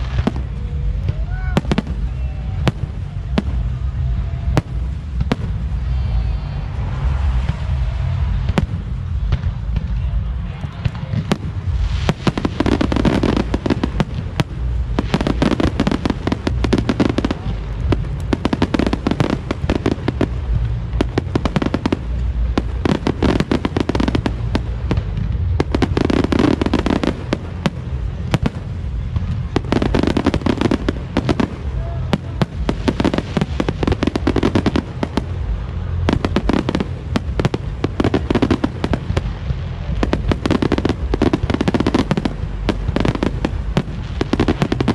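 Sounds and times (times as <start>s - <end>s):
fireworks bangs and crackling: 0.0s - 44.9s
low rumble: 0.0s - 44.9s.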